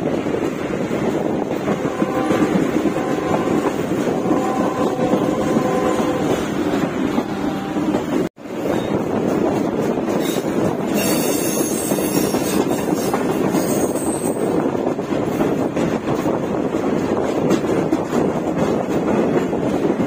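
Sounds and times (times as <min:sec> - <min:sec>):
rumble of wheels on rail: 0:00.0 - 0:20.0
wind rushing over microphone: 0:00.0 - 0:20.0.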